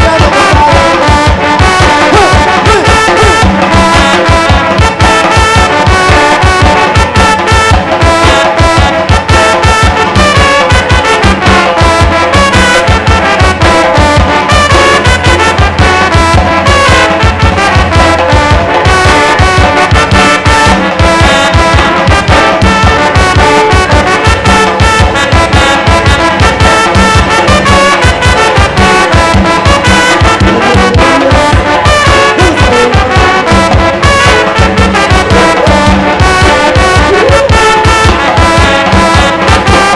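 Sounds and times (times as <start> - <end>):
bass drum and cymbal beat: 0.0 - 39.9
trumpets and trombones: 0.0 - 39.9.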